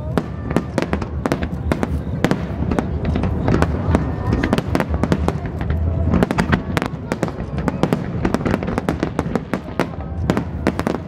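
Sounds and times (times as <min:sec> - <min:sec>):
low rumble: 0:00.0 - 0:10.7
fireworks bursting: 0:00.0 - 0:11.0.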